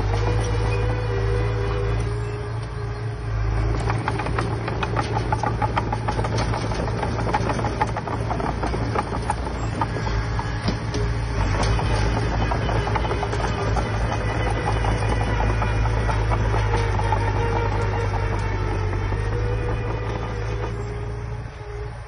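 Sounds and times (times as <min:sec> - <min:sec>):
clanks and rattles: 0:00.0 - 0:22.0
heavy diesel machinery running: 0:00.0 - 0:22.0.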